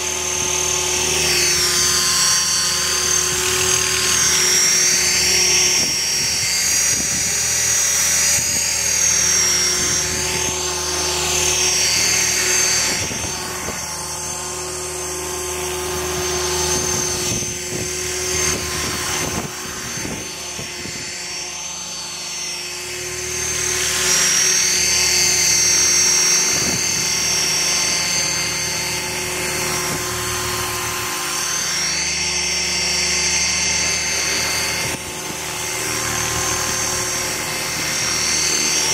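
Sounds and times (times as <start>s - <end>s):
motor and gears whine: 0.0s - 38.9s
rotor blades whooshing: 0.0s - 38.9s.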